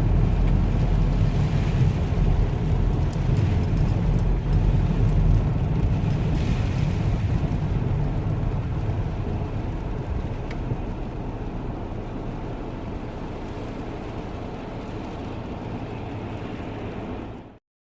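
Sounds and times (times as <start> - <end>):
road traffic rumble: 0.0 - 17.6.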